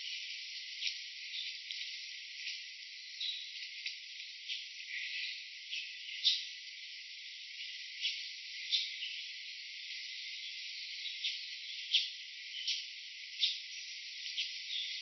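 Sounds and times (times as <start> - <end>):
insect chorus hiss: 0.0 - 15.0.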